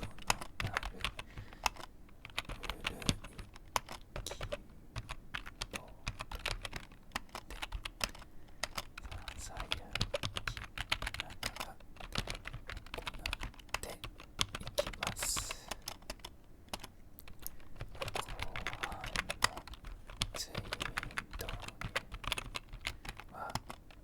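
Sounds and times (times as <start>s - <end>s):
keyboard typing: 0.0s - 24.0s.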